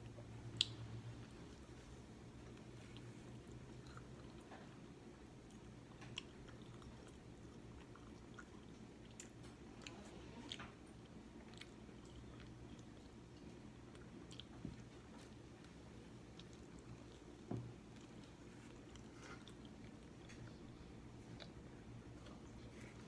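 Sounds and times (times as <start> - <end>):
faint chewing: 0.0 - 23.0
low steady hum: 0.0 - 23.0.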